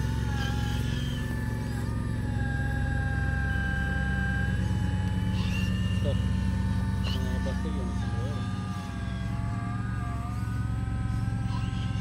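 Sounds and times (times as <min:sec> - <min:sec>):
high motor whine: 0:00.0 - 0:12.0
low engine-like rumble: 0:00.0 - 0:12.0.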